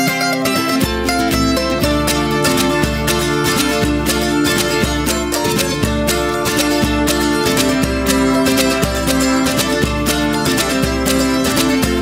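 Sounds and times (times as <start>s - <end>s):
folk tune on plucked strings: 0.0s - 12.0s.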